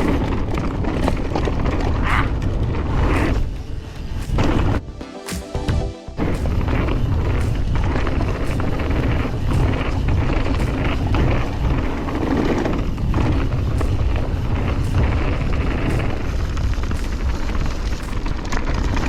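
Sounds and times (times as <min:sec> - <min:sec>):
wind rumbling on microphone: 0:00.0 - 0:04.8, 0:06.4 - 0:19.0.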